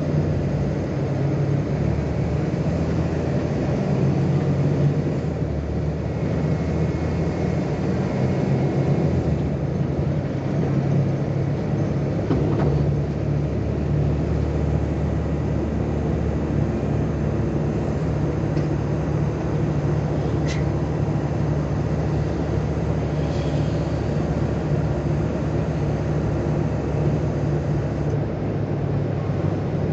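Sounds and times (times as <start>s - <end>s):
bus diesel engine droning: 0.0s - 29.9s.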